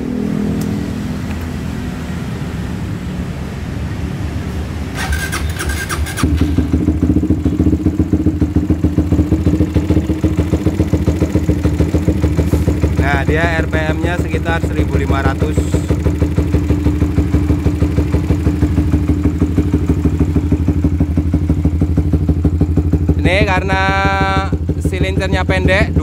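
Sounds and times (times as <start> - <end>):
motorcycle engine idling: 5.0 - 26.0.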